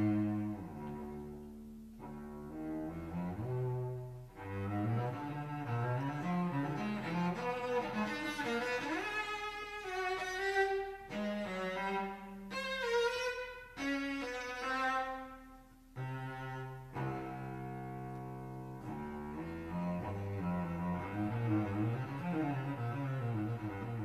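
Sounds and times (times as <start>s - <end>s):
cello playing: 0.0s - 24.0s.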